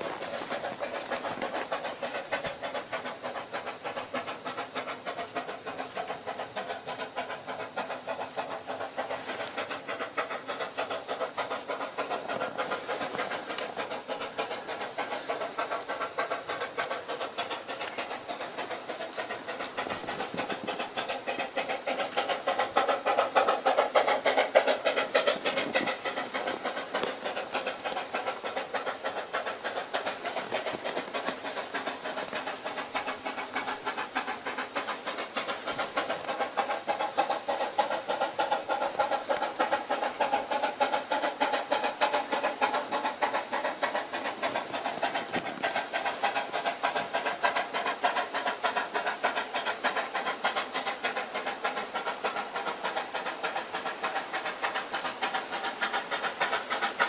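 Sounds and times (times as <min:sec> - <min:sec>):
steam locomotive exhaust chuffing: 0:00.0 - 0:57.0.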